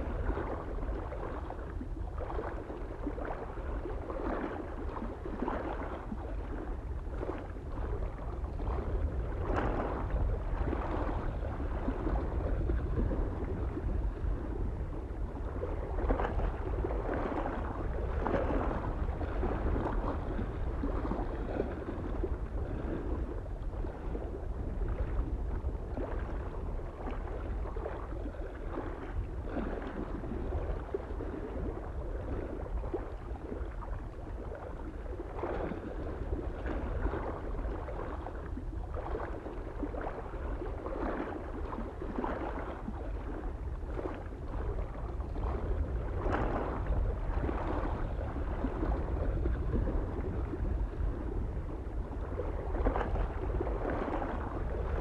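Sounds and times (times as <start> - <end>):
small waves lapping on shore: 0.0 - 55.0
wind rumble on microphone: 0.0 - 55.0.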